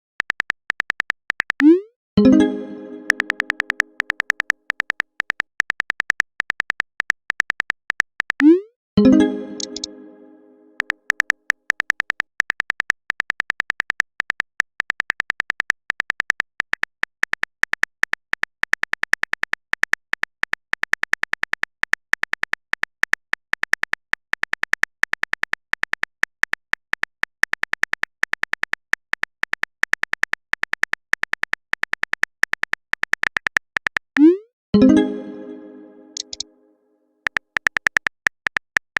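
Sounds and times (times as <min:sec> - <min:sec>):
phone keyboard typing ticks: 0:00.0 - 0:10.1, 0:10.8 - 0:36.5, 0:37.2 - 0:38.9.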